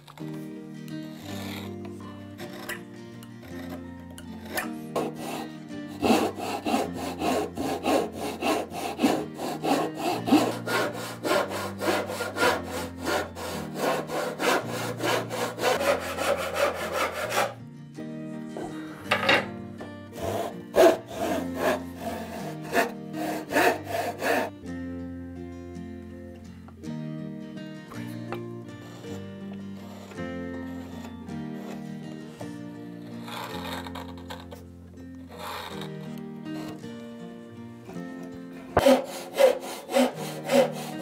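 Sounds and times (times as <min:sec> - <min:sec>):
hand saw cutting wood: 0:00.0 - 0:17.6, 0:18.5 - 0:24.8, 0:28.0 - 0:37.1, 0:38.0 - 0:41.0
soft background music: 0:00.0 - 0:41.0.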